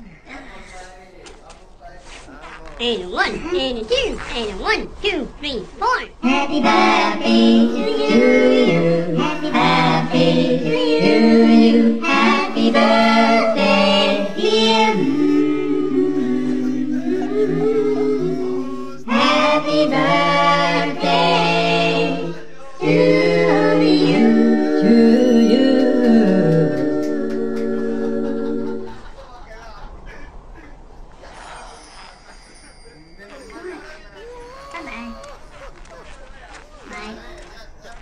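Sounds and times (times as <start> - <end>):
voices singing: 2.1 - 38.0.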